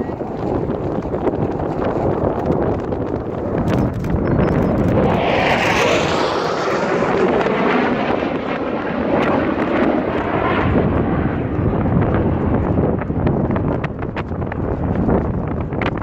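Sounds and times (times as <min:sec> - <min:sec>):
fighter jet passing: 0:00.0 - 0:16.0.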